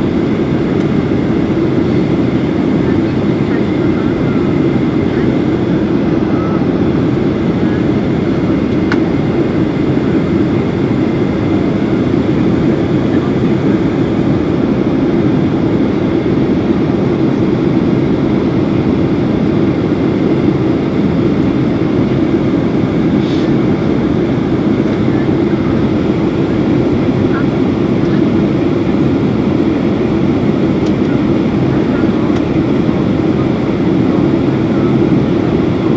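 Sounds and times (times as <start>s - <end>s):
airplane cabin rumble: 0.0s - 35.9s.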